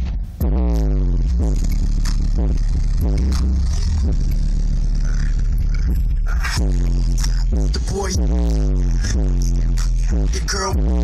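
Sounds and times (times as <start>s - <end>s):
deep subwoofer bass: 0.0s - 11.0s
loud music through car speakers: 0.0s - 11.0s.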